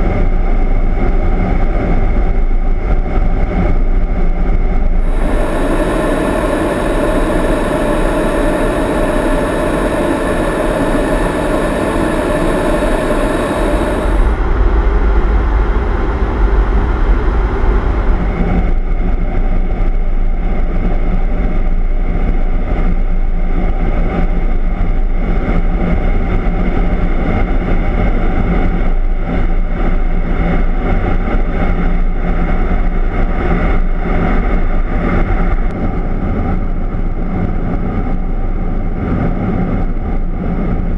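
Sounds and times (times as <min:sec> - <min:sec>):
jet aircraft cabin noise: 0:00.0 - 0:40.9.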